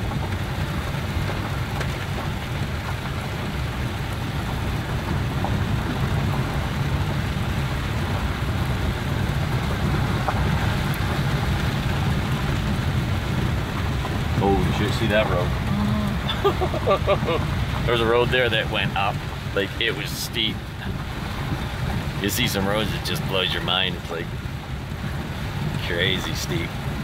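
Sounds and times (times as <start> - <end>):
engine and tyre drone: 0.0 - 27.0
heavy rain on car roof: 0.0 - 27.0.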